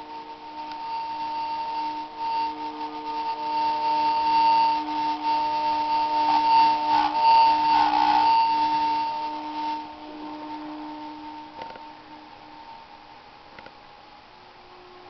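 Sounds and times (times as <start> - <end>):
ambient drone of held tones: 0.0 - 15.0.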